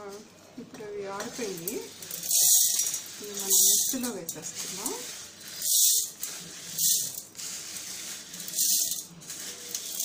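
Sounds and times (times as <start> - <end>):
grains rattling into jar: 1.2 - 10.0.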